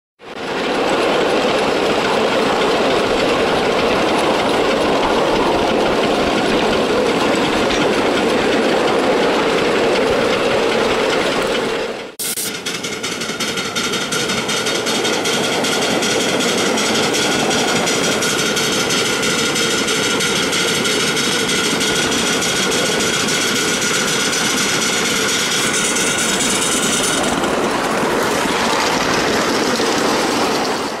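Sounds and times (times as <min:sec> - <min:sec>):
train wheels clattering on rails: 0:00.2 - 0:31.0.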